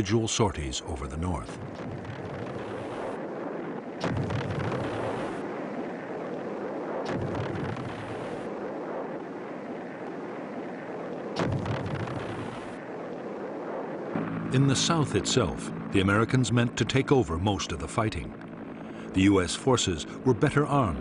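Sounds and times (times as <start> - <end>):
continuous low rumble: 0.0 - 21.0
bomb blasts: 0.8 - 21.0.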